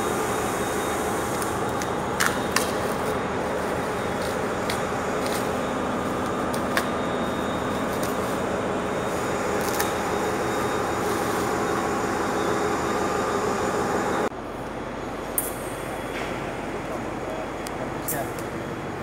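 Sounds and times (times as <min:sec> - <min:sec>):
diesel generator engines droning: 0:00.0 - 0:19.0.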